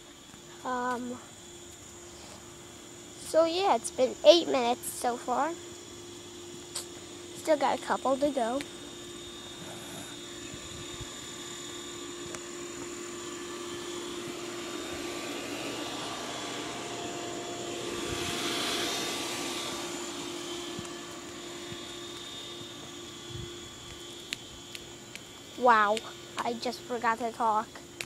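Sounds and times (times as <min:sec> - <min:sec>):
aircraft passing overhead: 0:00.0 - 0:28.0.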